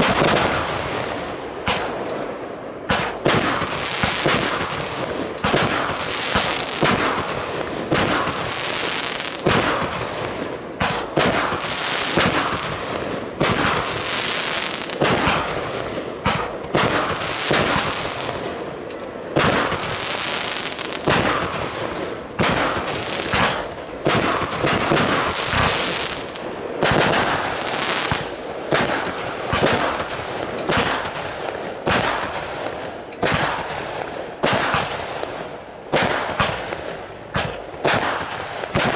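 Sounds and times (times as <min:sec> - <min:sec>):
fireworks bangs: 0:00.0 - 0:38.9
fireworks hissing and crackling: 0:00.0 - 0:38.9.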